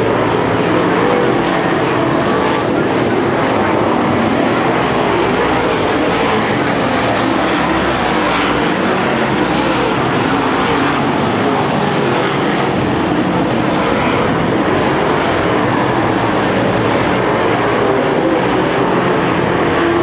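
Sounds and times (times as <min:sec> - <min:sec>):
race car engines roaring: 0:00.0 - 0:20.0.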